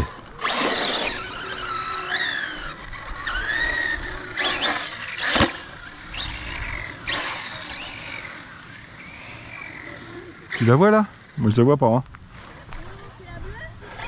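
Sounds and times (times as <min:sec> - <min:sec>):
toy car motor whining: 0:00.0 - 0:11.7, 0:12.3 - 0:14.0.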